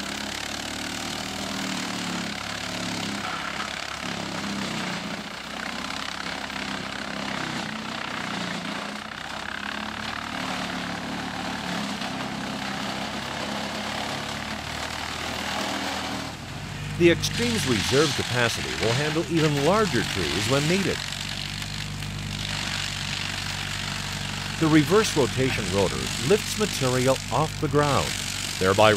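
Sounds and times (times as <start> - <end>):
tractor engine under load: 0.0 - 28.9
brush shredder chewing brush: 1.4 - 28.9.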